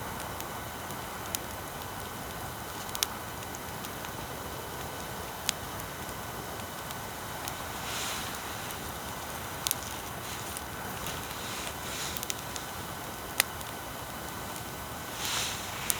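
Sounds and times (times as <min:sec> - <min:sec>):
bonfire crackling: 0:00.0 - 0:15.9
fire pops: 0:00.2 - 0:15.9.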